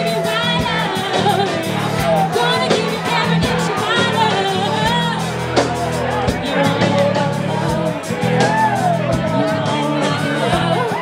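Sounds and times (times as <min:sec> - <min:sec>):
woman singing: 0:00.0 - 0:05.3, 0:06.3 - 0:11.0
low bass notes: 0:00.0 - 0:11.0.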